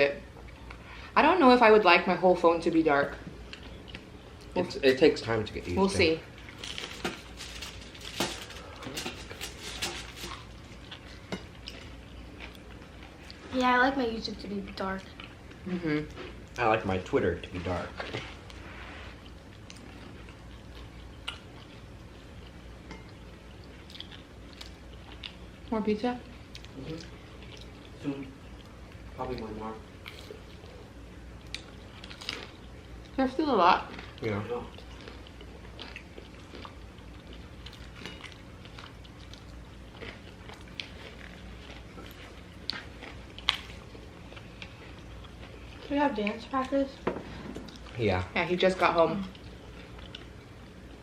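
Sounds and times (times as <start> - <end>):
low room hum: 0.0 - 51.0
chewing pizza: 3.0 - 51.0.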